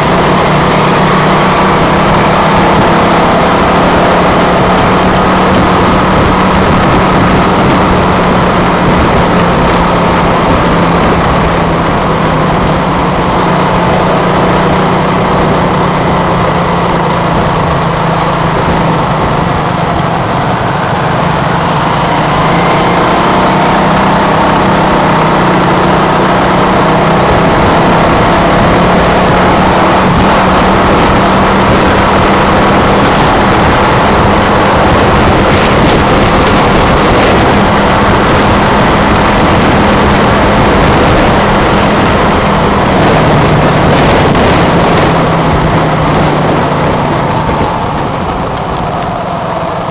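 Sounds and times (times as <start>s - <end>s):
road and wind noise: 0.0s - 49.9s
vehicle engine running: 0.0s - 49.9s.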